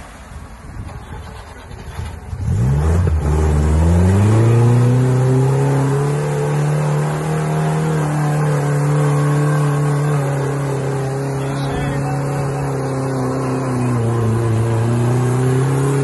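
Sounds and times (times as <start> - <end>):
off-road vehicle engine revving: 0.9 - 16.0.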